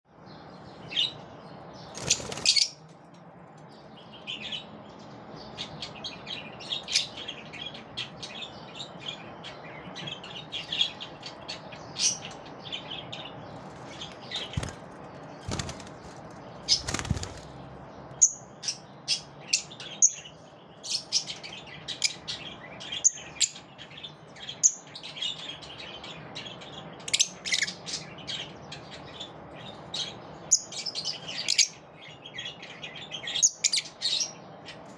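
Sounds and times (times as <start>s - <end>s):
lovebirds chirping: 0.2s - 2.9s, 3.6s - 34.9s.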